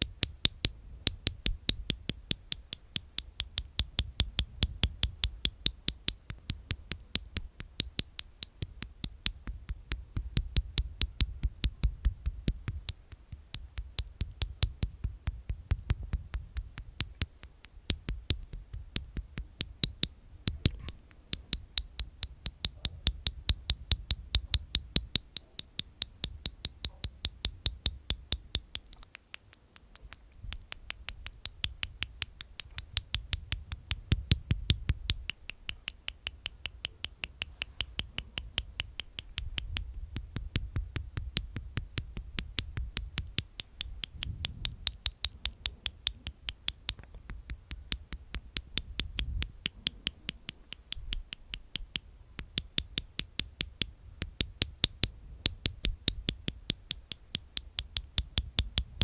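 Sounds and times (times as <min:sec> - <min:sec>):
mouth clicks: 0:00.0 - 0:59.0.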